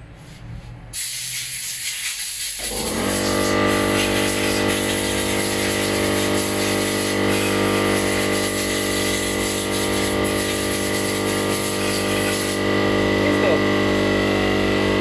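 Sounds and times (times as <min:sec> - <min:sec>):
machine motor running: 0:02.6 - 0:15.0.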